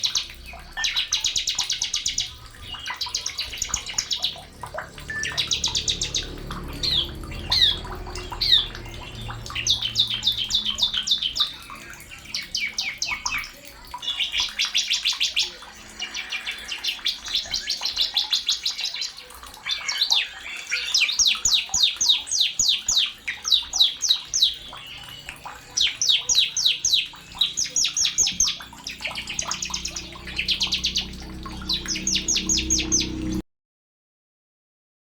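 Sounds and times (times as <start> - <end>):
bird chirping rapidly: 0.0 - 33.4.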